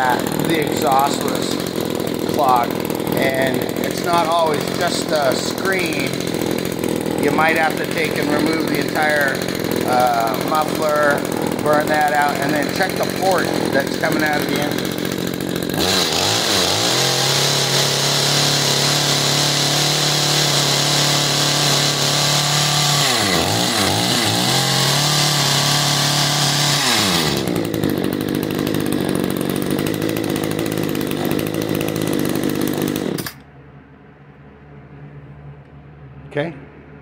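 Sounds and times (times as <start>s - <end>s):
hedge trimmer engine revving: 0.0s - 33.5s.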